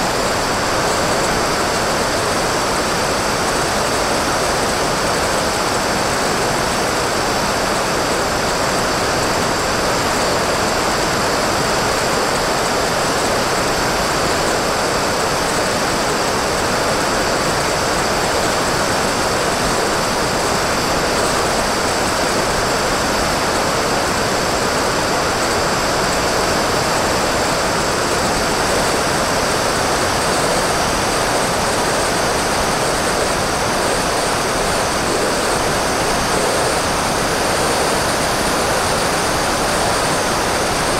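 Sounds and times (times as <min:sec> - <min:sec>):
propeller and airflow rush: 0:00.0 - 0:40.9.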